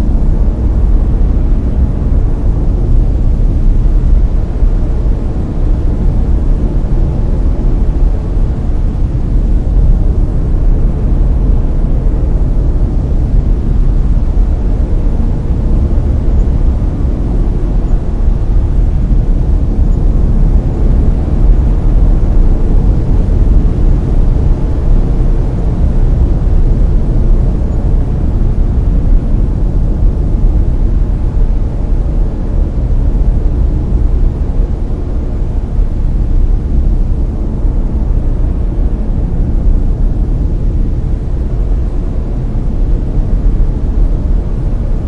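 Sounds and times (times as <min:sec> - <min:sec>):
brown noise rumbling hiss: 0:00.0 - 0:45.0.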